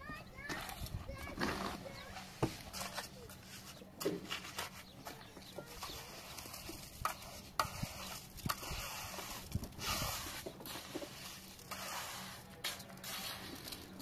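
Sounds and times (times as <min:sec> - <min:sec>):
trowel scraping mortar: 0:00.4 - 0:14.0.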